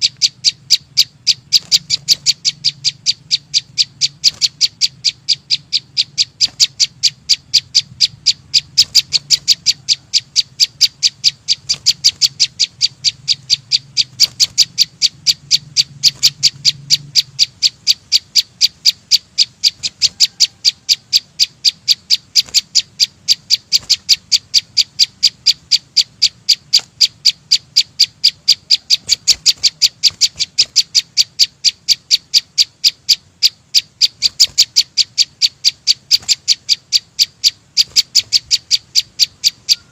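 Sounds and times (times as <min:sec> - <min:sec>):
small bird sharp high chirps: 0:00.0 - 0:39.9.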